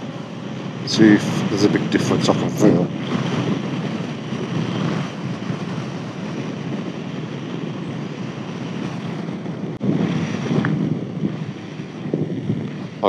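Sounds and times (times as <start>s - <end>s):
motorcycle engine: 0.0s - 13.0s
road noise: 0.0s - 13.0s
wind rushing over microphone: 0.0s - 13.0s.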